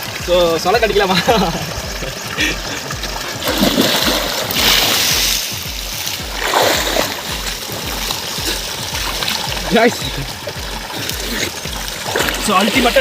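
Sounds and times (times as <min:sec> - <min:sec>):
music with low beat: 0:00.0 - 0:13.0
water splashing: 0:00.0 - 0:13.0.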